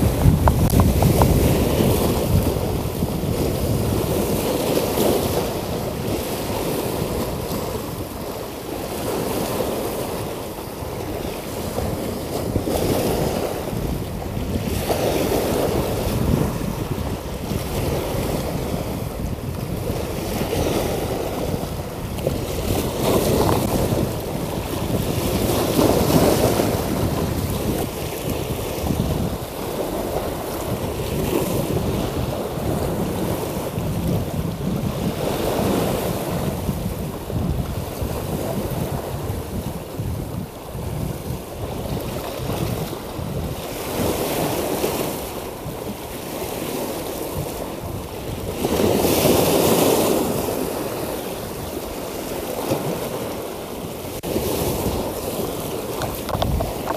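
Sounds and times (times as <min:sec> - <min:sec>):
sea waves washing against rocks: 0:00.0 - 0:56.9
wind buffeting microphone: 0:00.0 - 0:56.9.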